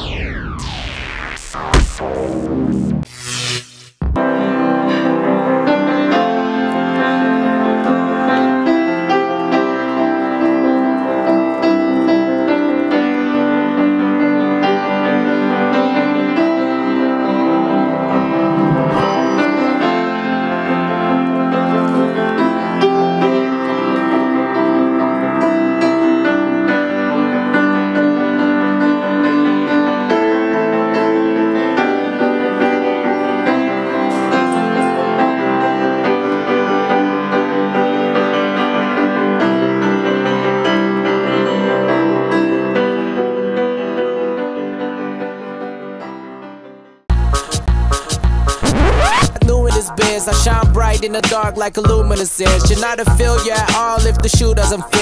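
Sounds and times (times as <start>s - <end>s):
piano background music: 4.2s - 55.0s.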